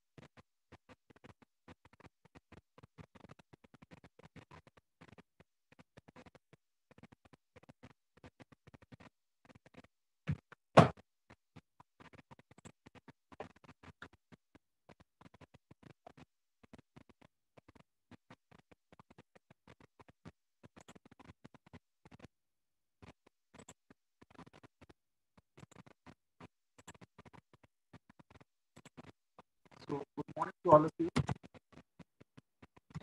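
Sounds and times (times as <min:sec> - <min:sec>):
faint irregular clicking and crackling: 0:00.1 - 0:33.0.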